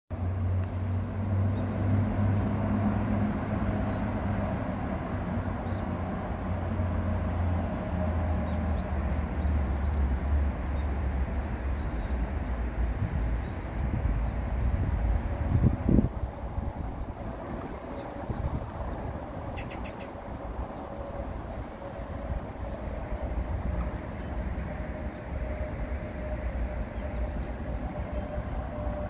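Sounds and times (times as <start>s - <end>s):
highway traffic rumble: 0.1s - 29.0s.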